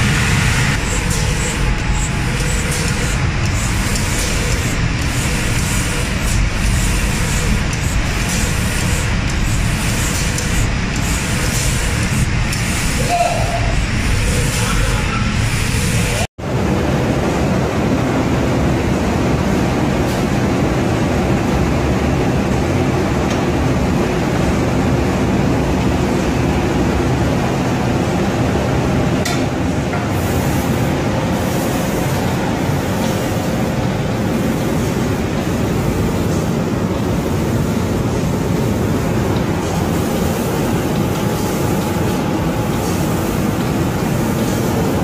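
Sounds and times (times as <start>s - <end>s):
roller conveyor rumble and hiss: 0.0s - 45.0s.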